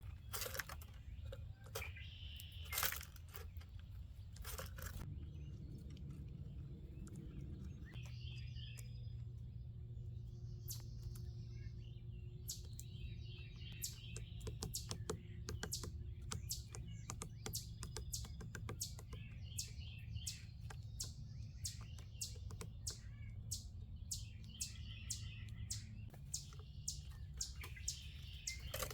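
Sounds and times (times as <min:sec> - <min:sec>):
low steady hum: 0:00.0 - 0:28.9
small birds chirping: 0:00.0 - 0:28.9.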